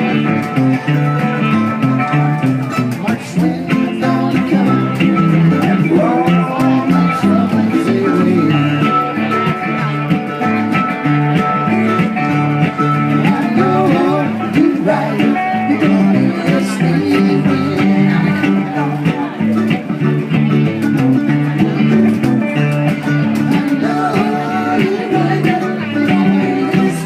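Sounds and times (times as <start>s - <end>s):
guitar and plucked strings: 0.0s - 27.0s
live band playing: 0.0s - 27.0s.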